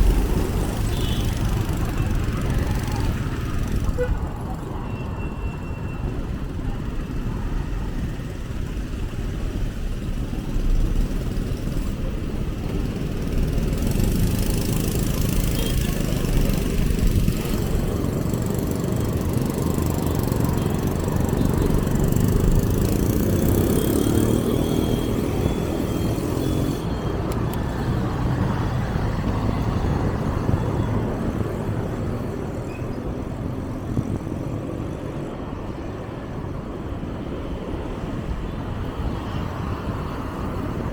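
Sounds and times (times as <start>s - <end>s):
motorbikes and vehicles passing: 0.0s - 40.9s
steady low traffic rumble: 0.0s - 40.9s.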